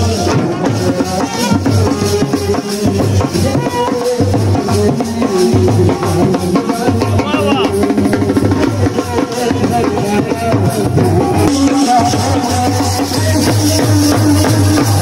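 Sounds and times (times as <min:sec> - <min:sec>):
amplified procession music with drums: 0:00.0 - 0:15.0
man singing into microphone: 0:00.0 - 0:15.0.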